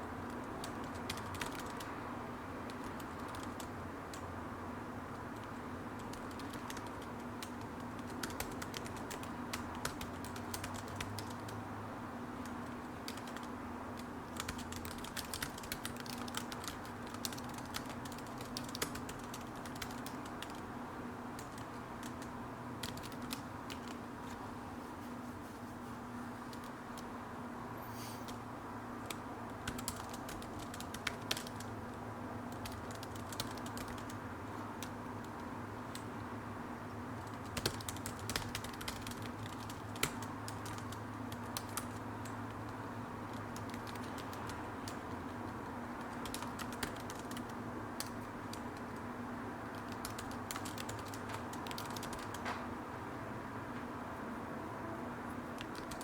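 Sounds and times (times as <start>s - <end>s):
typing on computer keyboard: 0.2s - 4.3s, 5.1s - 11.6s, 12.4s - 24.0s, 26.5s - 27.1s, 29.0s - 36.2s, 37.2s - 52.6s, 55.6s - 56.0s.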